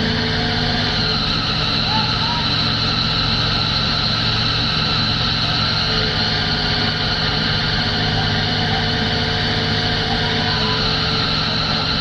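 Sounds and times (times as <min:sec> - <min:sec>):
excavator diesel engines idling: 0:00.0 - 0:12.0.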